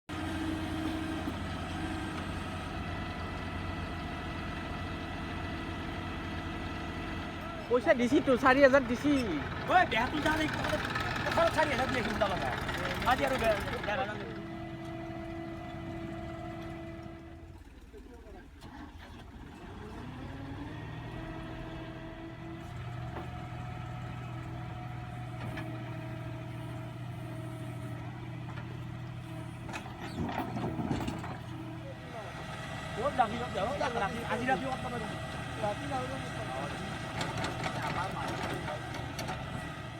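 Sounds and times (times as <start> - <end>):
diesel tractor engine running: 0.1 - 39.9.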